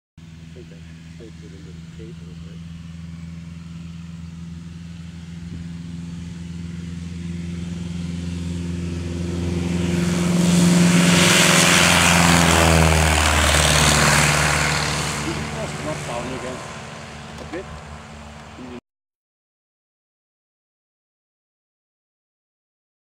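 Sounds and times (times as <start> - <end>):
model plane engine at full power: 0.2 - 18.8
propeller rush: 0.2 - 18.8.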